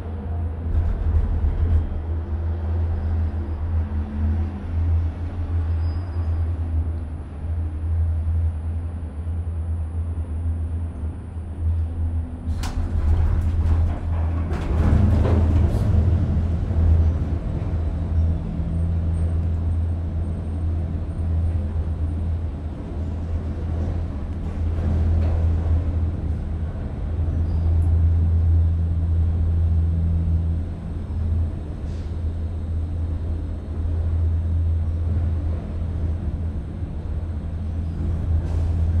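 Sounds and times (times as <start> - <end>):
gondola cabin low rumble: 0.0 - 39.0.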